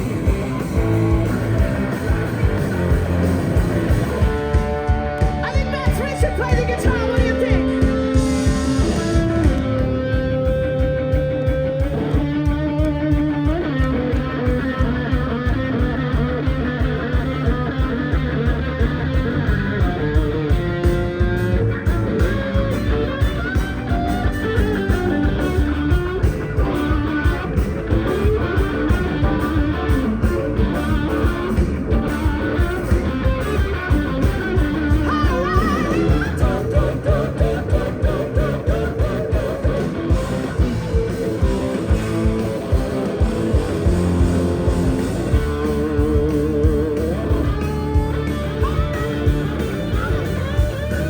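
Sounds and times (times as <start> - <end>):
bass guitar: 0.0 - 51.0
electric guitar: 0.0 - 51.0
steady drum beat: 0.0 - 51.0.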